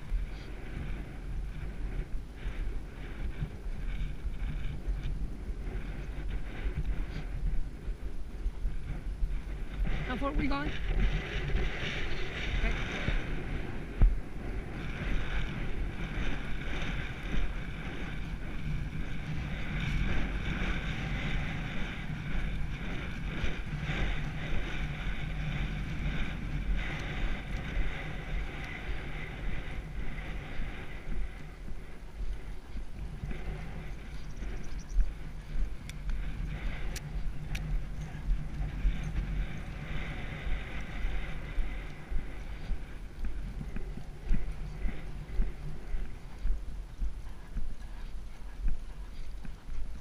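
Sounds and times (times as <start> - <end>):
hoofbeats on dirt: 0.0 - 50.0
wind buffeting microphone: 0.0 - 50.0.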